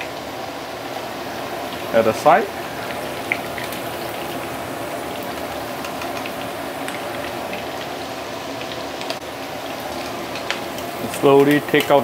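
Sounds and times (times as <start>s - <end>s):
prawns deep-frying in oil: 0.0s - 12.0s.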